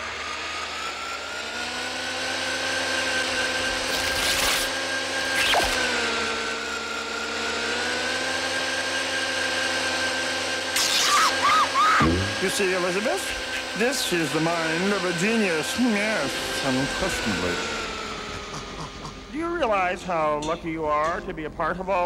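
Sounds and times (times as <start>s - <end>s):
vacuum machine whirring hum: 0.0s - 21.2s.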